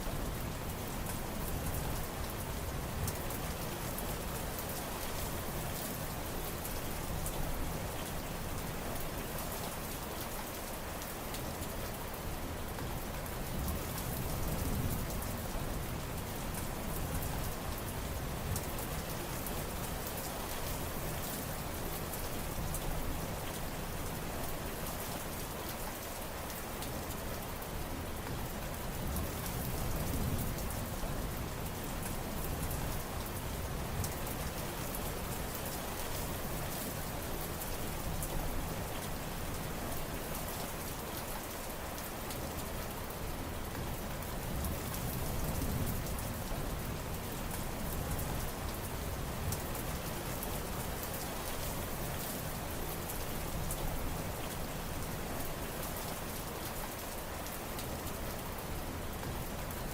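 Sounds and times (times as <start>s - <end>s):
rain drops ticking: 0.0s - 59.9s.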